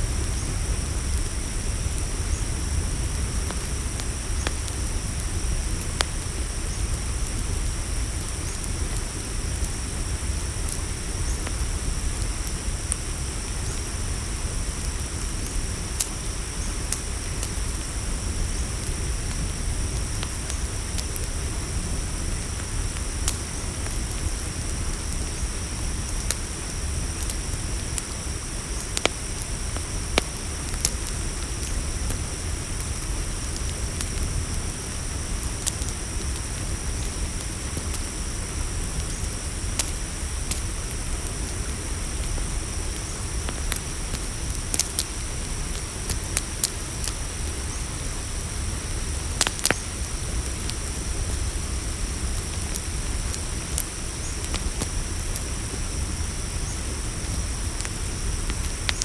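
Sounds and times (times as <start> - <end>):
campfire crackling and popping: 0.0 - 59.0
night crickets chirping: 0.0 - 59.0.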